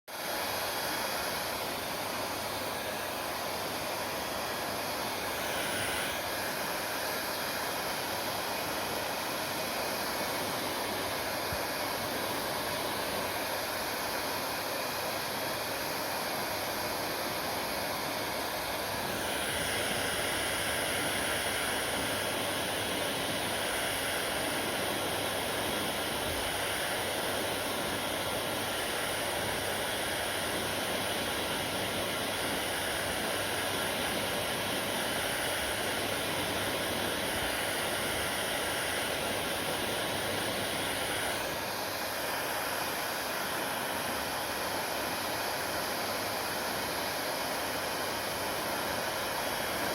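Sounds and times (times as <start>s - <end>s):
hair dryer running: 0.1s - 49.9s.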